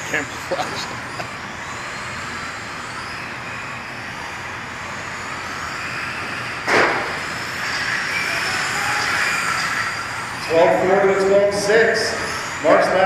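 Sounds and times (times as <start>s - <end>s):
electric motors whining: 0.0s - 13.0s
loud burst of noise: 0.0s - 13.0s.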